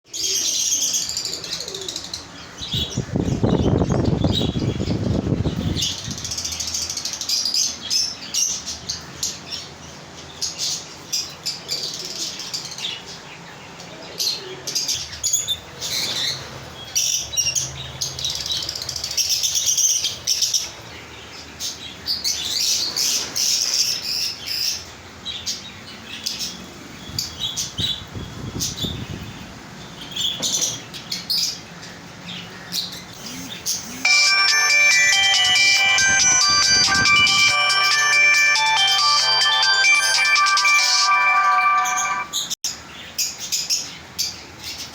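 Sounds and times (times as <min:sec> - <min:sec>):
cage birds chirping: 0:00.1 - 0:44.9.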